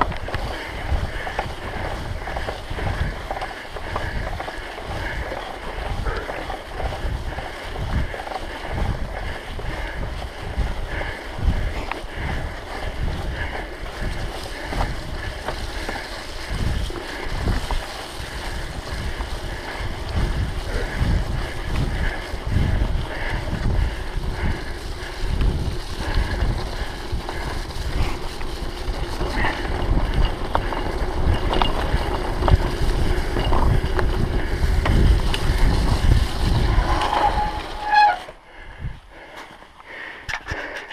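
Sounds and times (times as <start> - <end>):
wind buffeting microphone: 0.0 - 39.2
tyres rumbling over dirt trail: 0.0 - 40.9.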